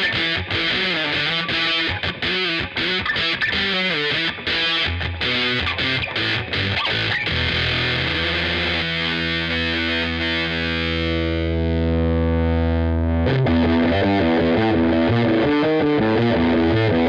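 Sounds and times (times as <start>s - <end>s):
fuzz electric guitar notes: 0.0s - 17.0s.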